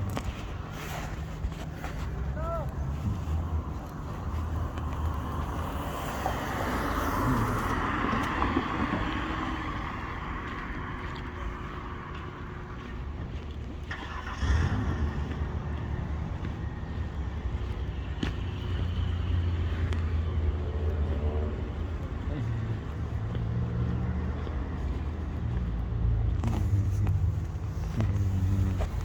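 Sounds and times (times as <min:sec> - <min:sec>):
vehicles driving past: 0:00.0 - 0:29.0
loud engine rumble: 0:02.6 - 0:29.0.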